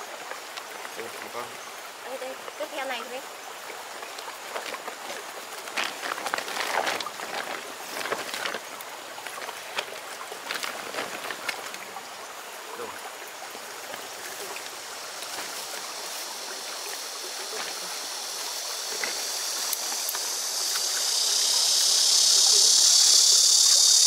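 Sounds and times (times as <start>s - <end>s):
small water splashes: 0.0s - 21.8s
wet grass rustling: 0.0s - 22.6s
stream water running: 0.0s - 24.0s
high-pitched insect buzz: 0.5s - 24.0s.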